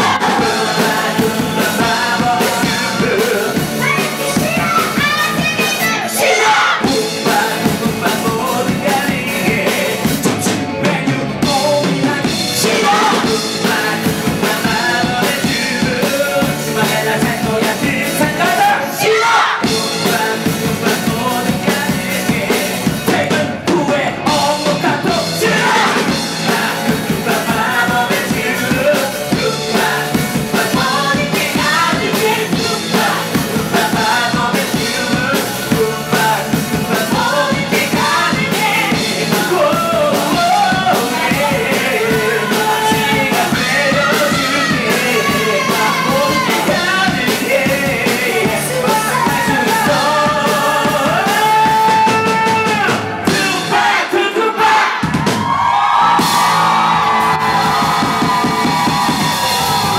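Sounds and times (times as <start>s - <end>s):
man singing into microphone: 0.0s - 3.8s, 6.6s - 54.9s
upbeat rock song with drums: 0.0s - 59.9s.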